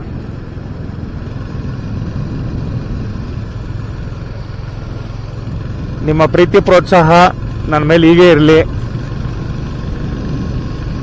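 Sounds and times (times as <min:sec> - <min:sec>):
motorcycle engine rumbling: 0:00.0 - 0:11.0
road noise: 0:00.0 - 0:11.0.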